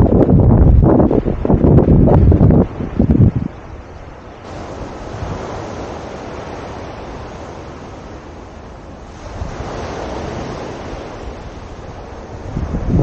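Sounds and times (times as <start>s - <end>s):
sea surf breaking: 0.0s - 13.0s
wind gusts on microphone: 0.0s - 13.0s.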